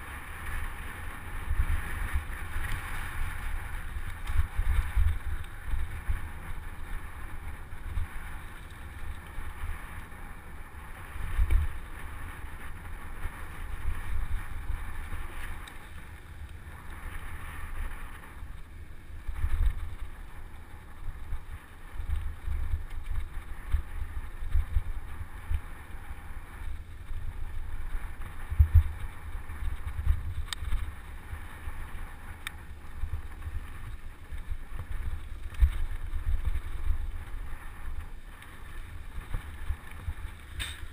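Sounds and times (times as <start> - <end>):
tyres rolling on dirt road: 0.0 - 40.9
wind buffeting microphone: 0.0 - 40.9.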